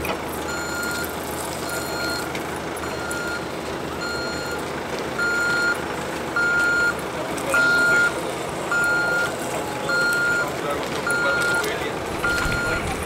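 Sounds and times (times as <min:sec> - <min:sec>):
vehicle reversing alarm beeping: 0:00.0 - 0:13.0.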